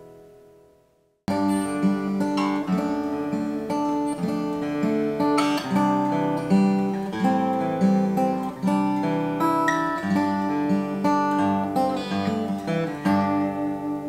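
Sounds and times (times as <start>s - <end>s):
fingerstyle acoustic guitar: 1.3s - 14.0s.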